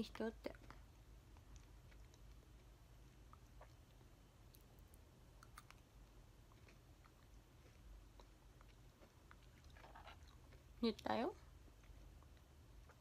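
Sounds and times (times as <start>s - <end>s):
faint chewing crunches: 0.4s - 13.0s.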